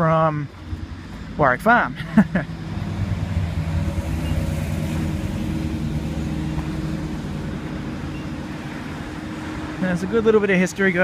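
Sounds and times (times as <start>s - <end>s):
vehicle engine running: 0.4s - 11.0s.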